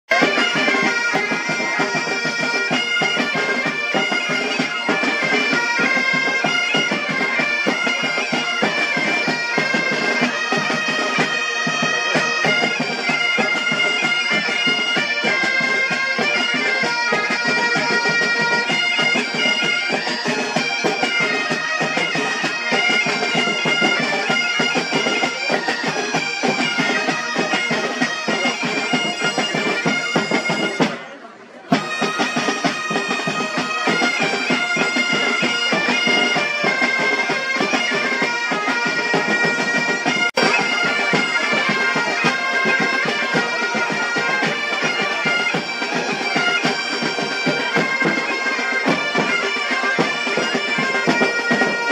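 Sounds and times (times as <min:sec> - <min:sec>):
snare drums: 0:00.1 - 0:31.1, 0:31.7 - 0:51.9
bagpipes playing in unison: 0:00.1 - 0:51.9.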